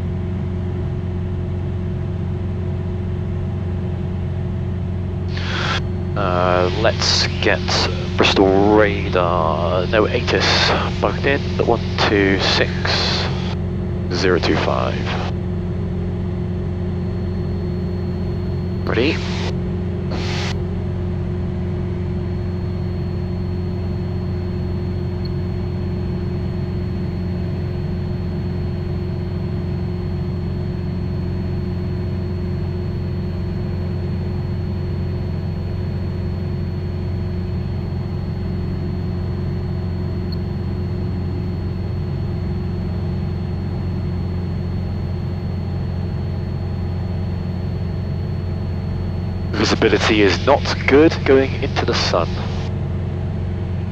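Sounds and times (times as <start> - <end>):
light aircraft engine drone: 0.0 - 53.9.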